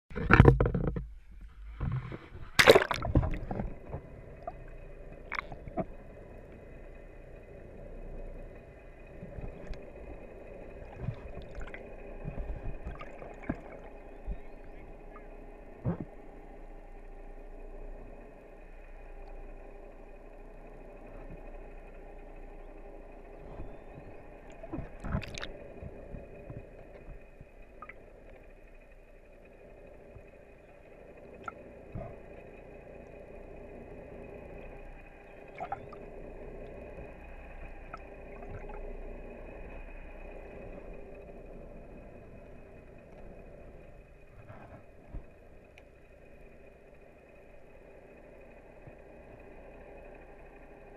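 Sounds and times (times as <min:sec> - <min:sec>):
muffled underwater boat engine: 0:00.0 - 0:50.9.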